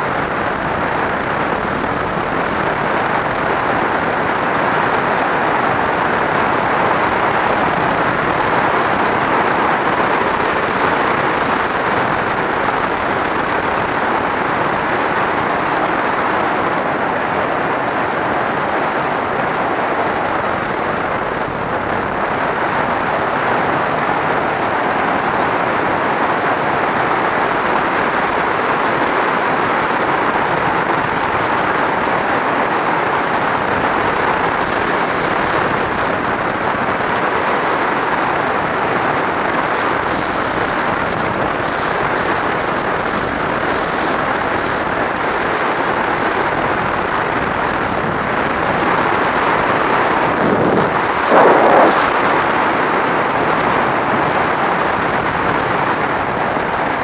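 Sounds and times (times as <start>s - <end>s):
wind rushing over camera: 0.0s - 57.0s.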